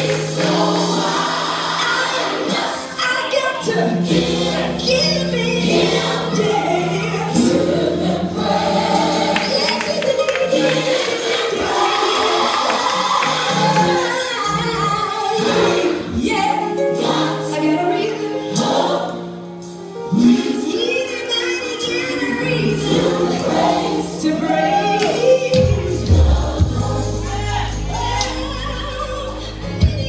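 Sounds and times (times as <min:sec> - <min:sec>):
choir singing gospel: 0:00.0 - 0:30.0.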